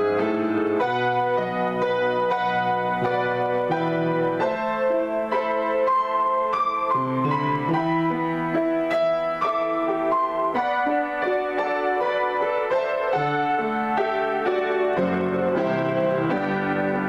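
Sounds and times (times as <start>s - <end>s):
grand piano improvisation: 0.0s - 17.0s.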